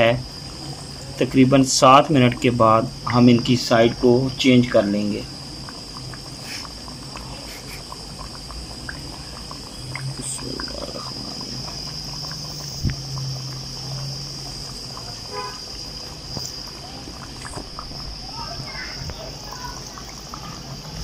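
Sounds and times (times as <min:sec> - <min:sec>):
oil bubbling and sizzling: 0:00.0 - 0:21.0.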